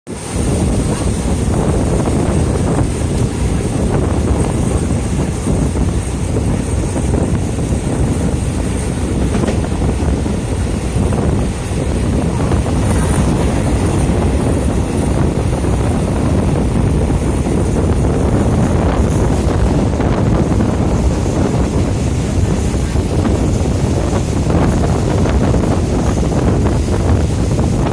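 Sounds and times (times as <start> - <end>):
moving train rumble: 0.1 - 27.9
wind buffeting microphone: 0.1 - 27.9.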